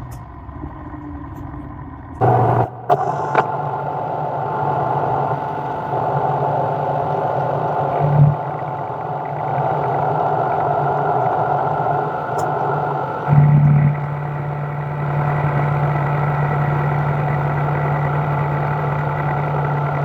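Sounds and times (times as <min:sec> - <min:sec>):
shop machine running: 0:02.2 - 0:20.0.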